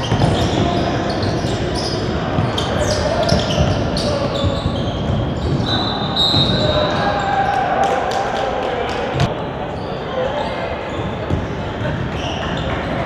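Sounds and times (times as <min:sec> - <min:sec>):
sneakers squeaking: 0:00.0 - 0:07.4, 0:09.1 - 0:13.0.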